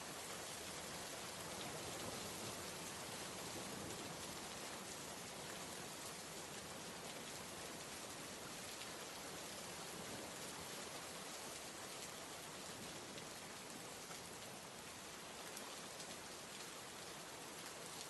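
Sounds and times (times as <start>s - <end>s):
faint rain hiss: 0.0s - 18.0s.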